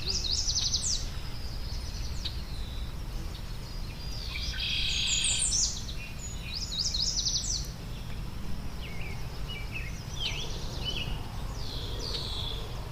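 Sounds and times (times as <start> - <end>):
songbirds chirping: 0.0 - 12.9.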